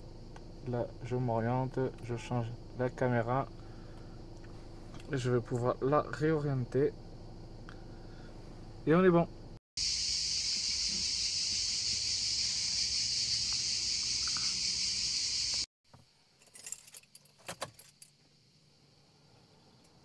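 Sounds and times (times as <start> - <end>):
cicadas chorus: 0.0 - 8.8, 9.8 - 15.7, 18.0 - 20.0.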